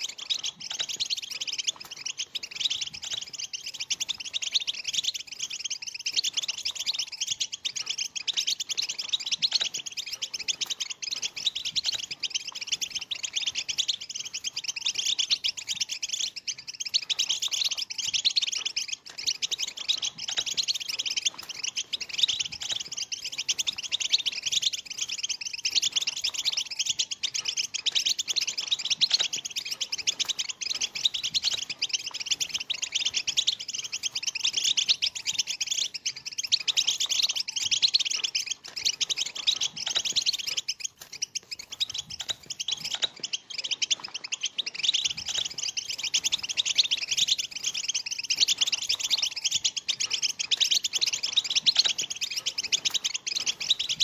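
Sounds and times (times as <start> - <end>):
goldfinches twittering: 0.0 - 54.0.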